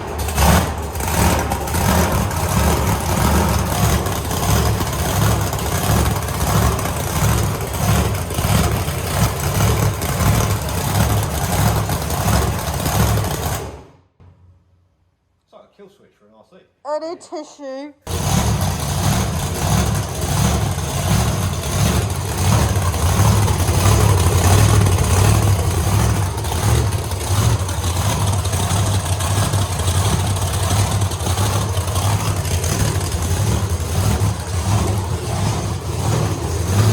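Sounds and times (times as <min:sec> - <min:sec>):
vee-eight engine running: 0:00.0 - 0:13.9, 0:18.1 - 0:36.9.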